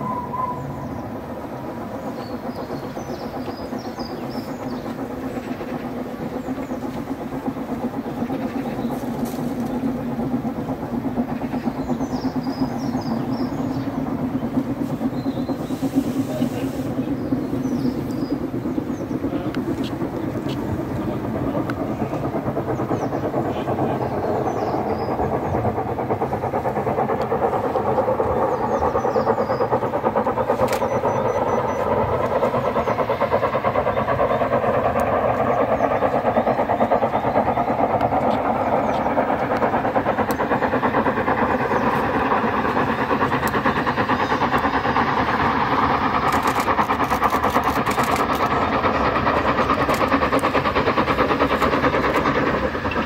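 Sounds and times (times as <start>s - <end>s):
steam locomotive exhaust: 0.0s - 53.0s.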